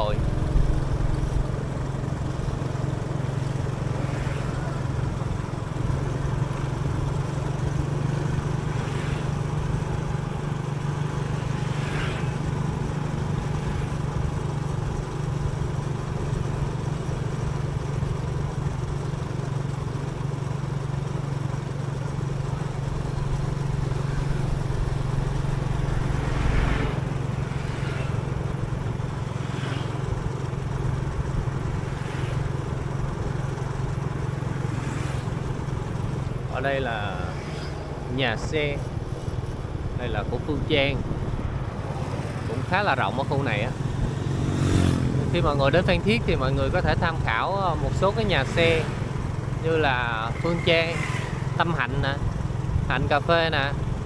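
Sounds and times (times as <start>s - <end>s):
road and wind noise: 0.0s - 54.0s
vehicle engine hum: 0.0s - 54.0s.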